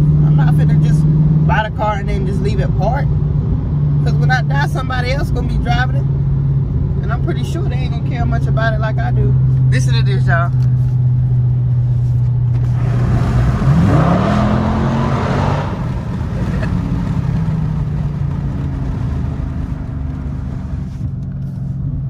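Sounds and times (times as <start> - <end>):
car engine droning and revving: 0.0 - 22.0.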